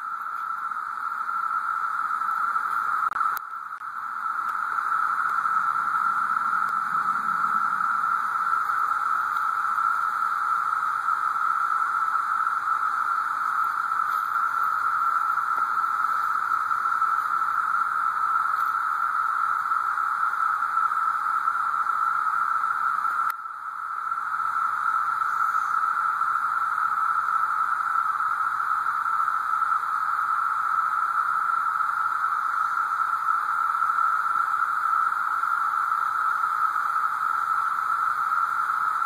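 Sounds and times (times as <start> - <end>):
cicadas whining: 0.0 - 39.0.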